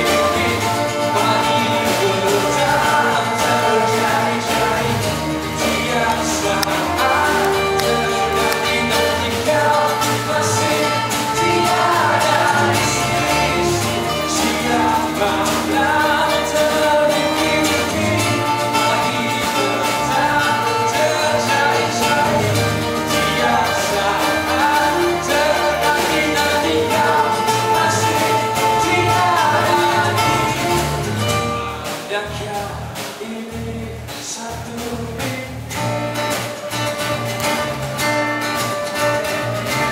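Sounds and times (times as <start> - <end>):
man singing: 0.0 - 37.8
drums: 0.0 - 39.9
strummed acoustic guitars: 0.0 - 39.9.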